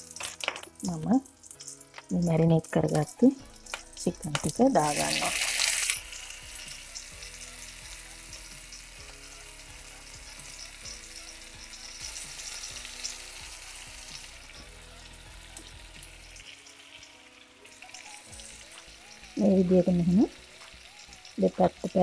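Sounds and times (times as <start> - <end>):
chicken sizzling in frying pan: 0.0 - 22.0.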